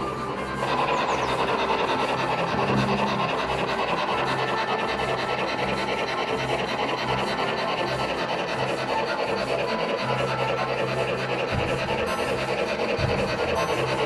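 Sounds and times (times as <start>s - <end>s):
model locomotive rumbling on track: 0.0s - 14.0s.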